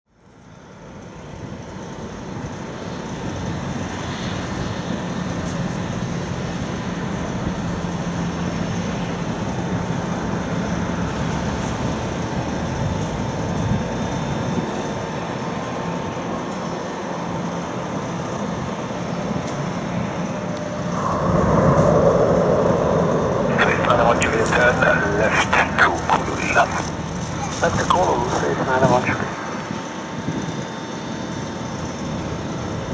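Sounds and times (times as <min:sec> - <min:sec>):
jet engines roaring: 0:01.4 - 0:32.9.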